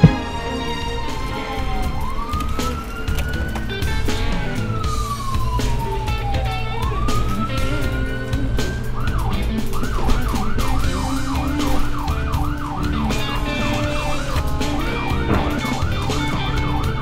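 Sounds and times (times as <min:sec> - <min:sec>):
ambulance siren yelping: 0:00.0 - 0:17.0
background music with a beat: 0:00.0 - 0:17.0.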